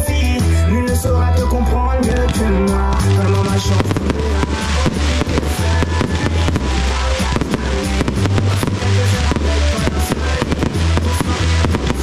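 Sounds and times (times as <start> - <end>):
music with steady bass line: 0.0 - 12.0
fireworks bangs and crackles: 2.0 - 12.0.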